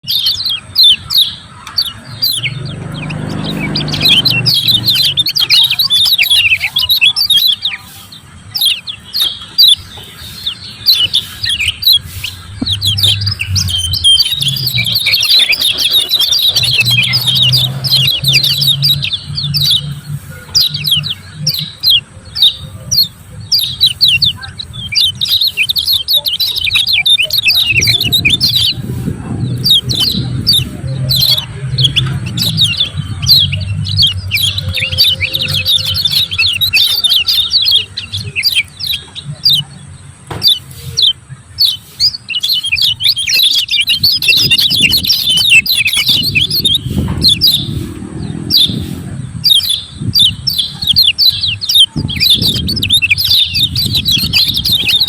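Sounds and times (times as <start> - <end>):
bird chirping rapidly: 0.0 - 55.0.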